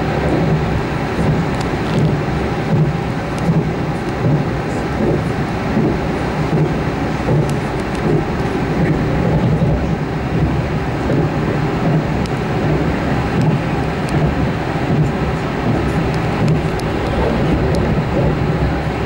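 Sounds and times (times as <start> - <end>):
wheels rumbling on rails: 0.0 - 19.0.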